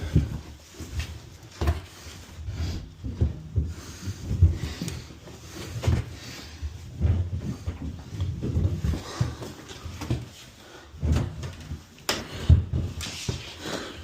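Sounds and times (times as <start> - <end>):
heavy furniture thumping and scraping: 0.0 - 14.0.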